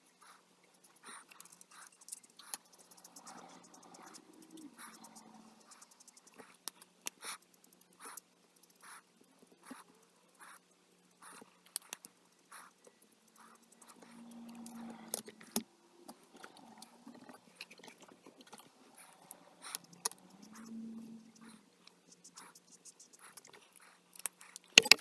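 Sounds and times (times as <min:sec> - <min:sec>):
marker nib strokes on paper: 0:00.0 - 0:24.8.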